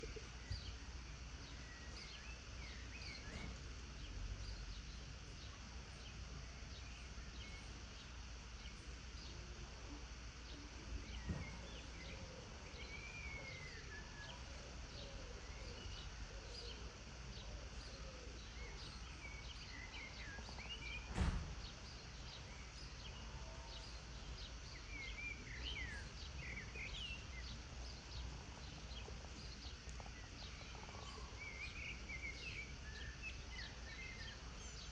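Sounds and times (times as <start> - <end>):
low background hum: 0.0 - 34.9
songbirds chirping: 0.0 - 34.9.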